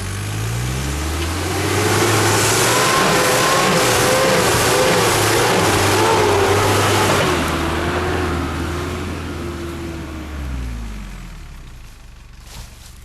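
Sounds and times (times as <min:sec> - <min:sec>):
engine revving hard: 0:00.0 - 0:11.4.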